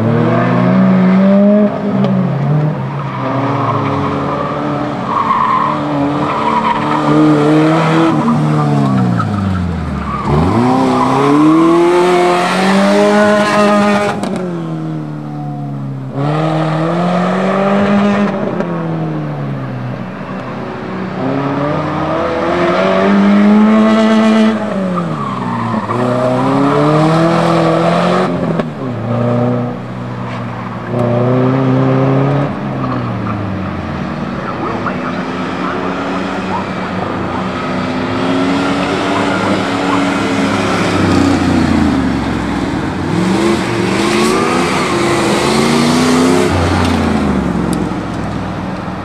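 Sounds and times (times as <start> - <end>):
car engine revving: 0.0 - 15.4, 16.1 - 49.0.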